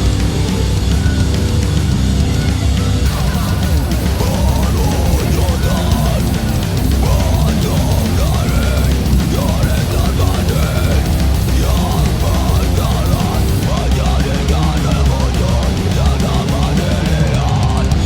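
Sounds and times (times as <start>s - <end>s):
distorted electric guitar lead: 0.0s - 18.0s
heavy metal music: 0.0s - 18.0s.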